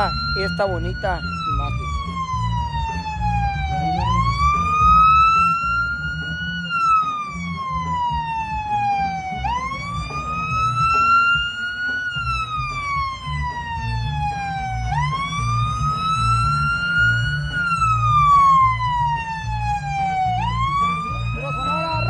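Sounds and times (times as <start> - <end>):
wailing siren: 0.0 - 22.0.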